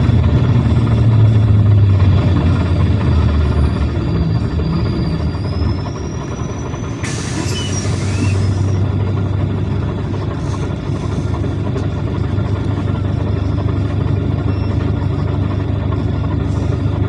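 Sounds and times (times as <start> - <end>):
bus engine humming: 0.0 - 17.0
road noise: 0.0 - 17.0.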